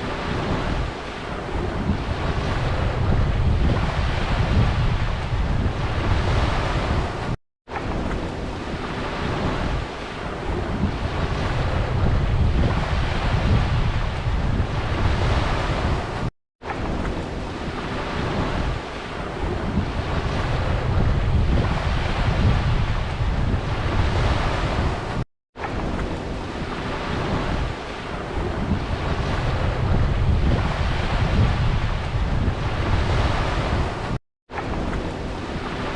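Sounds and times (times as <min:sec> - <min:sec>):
surf washing on beach: 0:00.0 - 0:35.9
wind buffeting microphone: 0:00.0 - 0:35.9.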